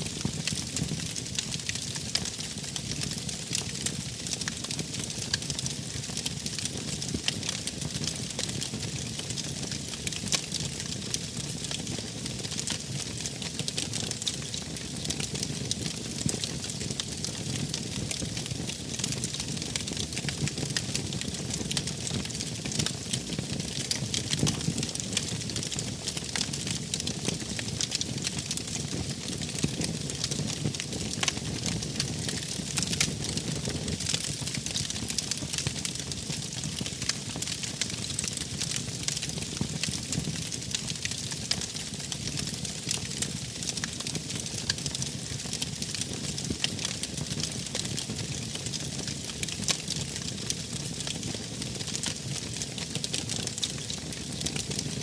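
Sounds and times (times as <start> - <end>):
campfire crackling: 9.4 - 55.0.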